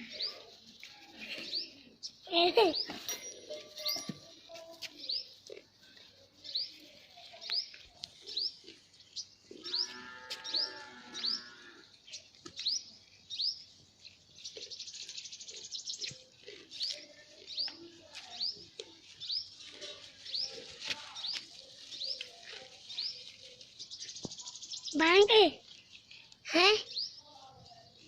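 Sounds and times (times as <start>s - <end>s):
small bird chirping: 0.0s - 28.0s.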